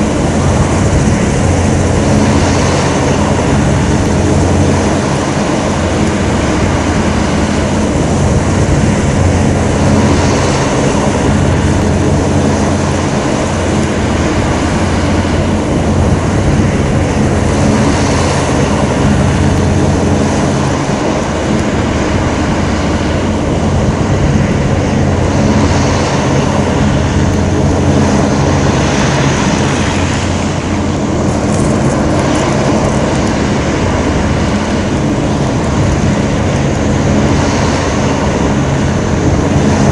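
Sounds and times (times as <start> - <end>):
continuous rushing noise: 0.0 - 39.9
hovercraft engine drone: 0.0 - 39.9.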